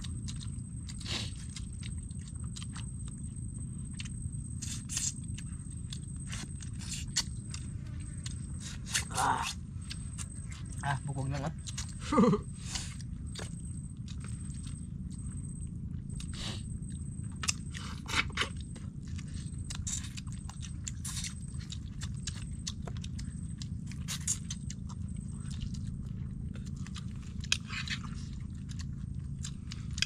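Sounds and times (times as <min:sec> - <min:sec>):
low background rumble: 0:00.0 - 0:30.0
people chewing and crunching: 0:00.0 - 0:30.0.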